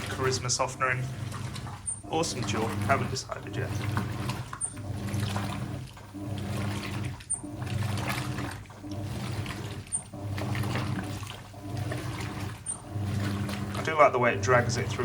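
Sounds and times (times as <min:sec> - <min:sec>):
washing machine motor hum: 0:00.0 - 0:15.0
water sloshing: 0:00.0 - 0:15.0.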